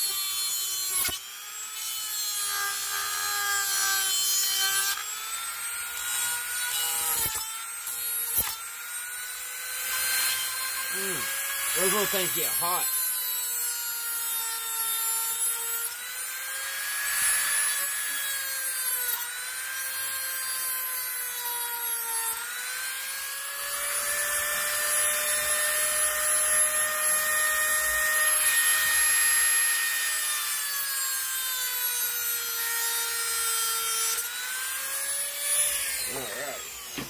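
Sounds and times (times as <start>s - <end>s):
electric cutting tool whining: 0.0s - 37.0s.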